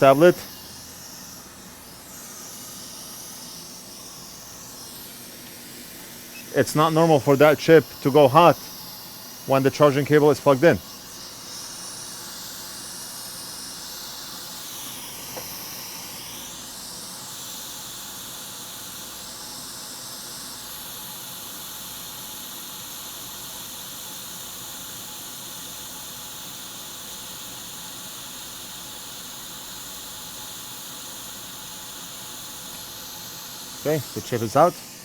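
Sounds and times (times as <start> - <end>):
hot air station hissing: 0.0 - 35.0.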